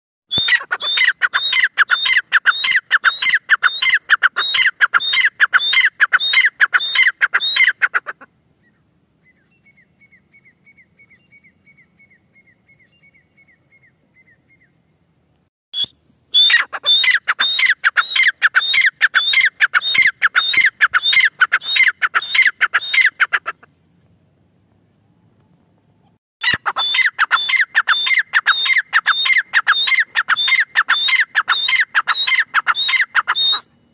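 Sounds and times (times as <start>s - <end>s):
bird calling with harsh notes: 0.3s - 14.8s, 15.8s - 23.7s, 26.4s - 33.9s.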